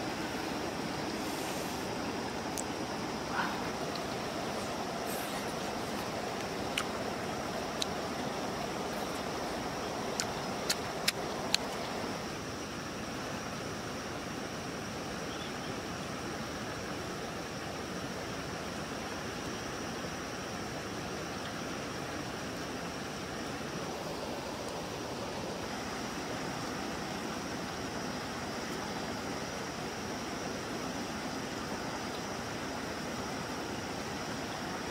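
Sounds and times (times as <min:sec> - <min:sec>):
river flowing: 0:00.0 - 0:34.9.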